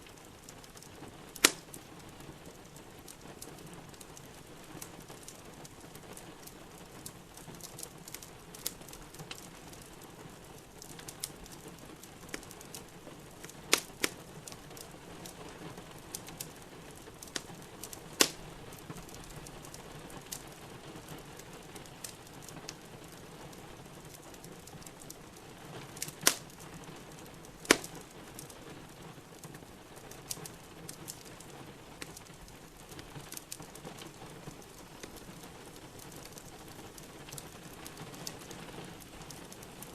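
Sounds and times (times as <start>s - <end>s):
burning wood popping: 0.0s - 39.9s
steady rain hissing: 0.0s - 39.9s
wood fire crackling: 0.0s - 39.9s.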